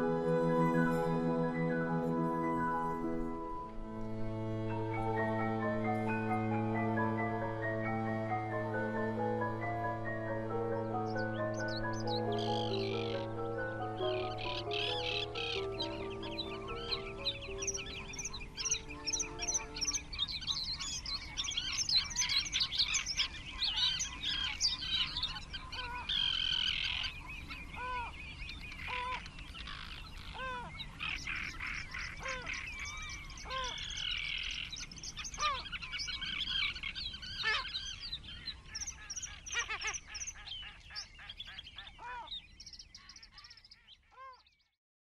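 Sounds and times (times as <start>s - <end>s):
lower arched bird call: 3.3s - 44.4s
small birds chirping: 3.7s - 44.8s.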